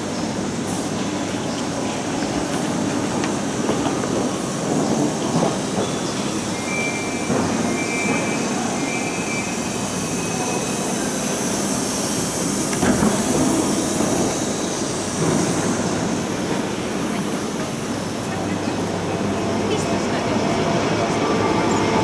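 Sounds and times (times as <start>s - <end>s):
train rumble and hiss: 0.0s - 22.0s.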